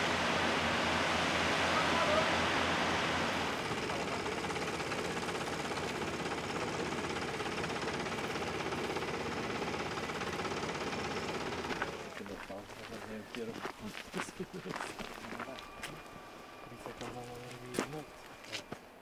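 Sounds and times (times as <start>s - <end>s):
drilling rig engine droning: 0.0s - 19.0s.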